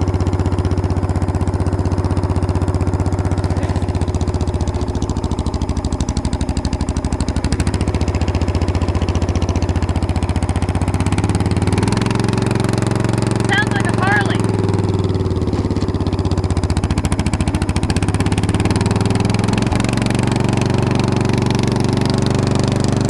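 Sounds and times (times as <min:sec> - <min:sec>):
lawn tractor engine running: 0:00.0 - 0:23.0.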